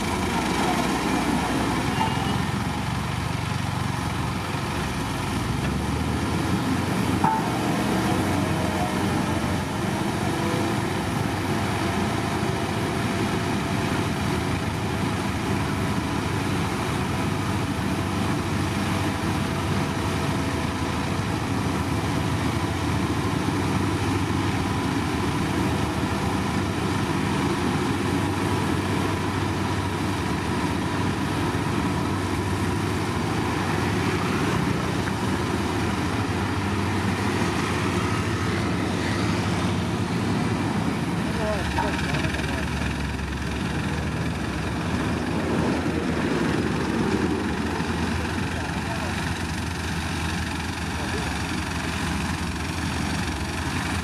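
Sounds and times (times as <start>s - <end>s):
heavy machinery engine drone: 0.0s - 54.0s.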